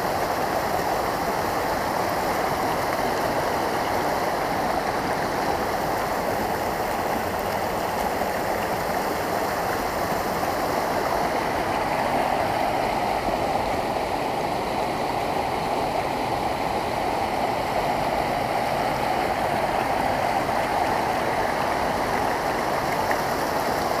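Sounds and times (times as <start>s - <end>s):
brook babbling over stones: 0.0s - 24.0s.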